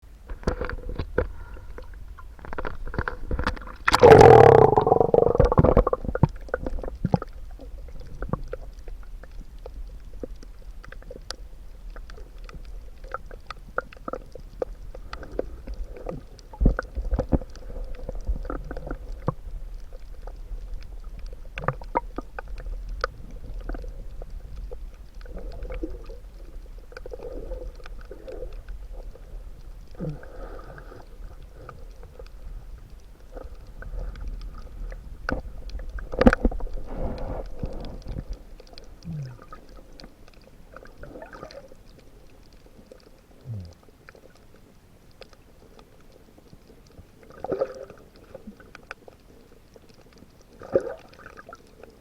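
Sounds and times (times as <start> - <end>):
steady low underwater rumble: 0.0 - 52.0
muffled bubbling gurgles: 0.1 - 41.9, 43.2 - 44.2
sharp underwater clicks and crackles: 0.1 - 52.0.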